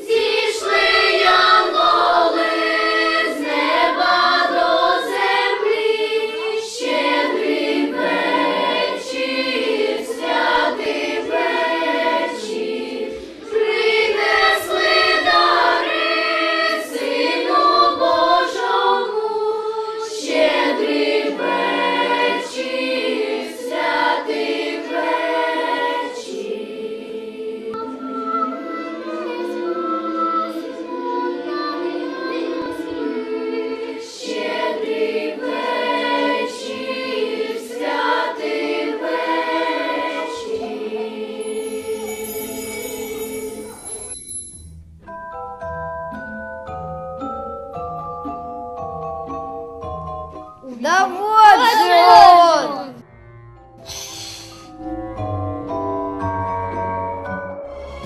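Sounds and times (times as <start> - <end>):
choir singing with music: 0.0 - 44.4, 45.5 - 53.1, 53.8 - 58.0.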